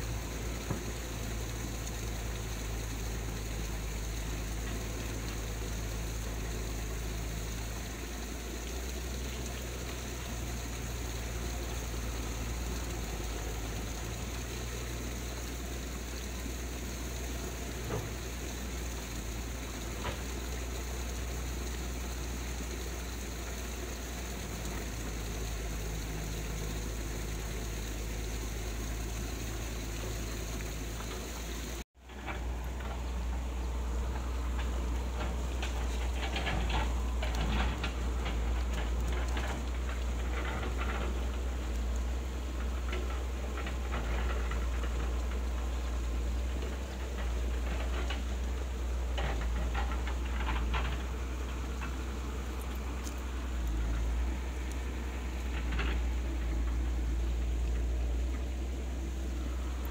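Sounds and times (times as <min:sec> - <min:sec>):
faint ticks: 0:00.0 - 0:59.9
stream rushing over rocks: 0:00.0 - 0:59.9.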